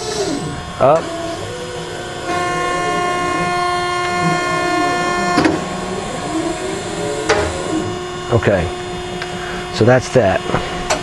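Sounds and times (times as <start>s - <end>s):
hydraulic unit hum: 0.0s - 11.0s
hydraulics whining: 0.0s - 11.0s.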